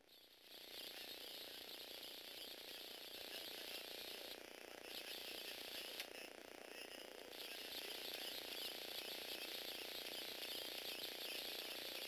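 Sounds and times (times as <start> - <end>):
toy robot motor and gears: 0.0 - 12.0.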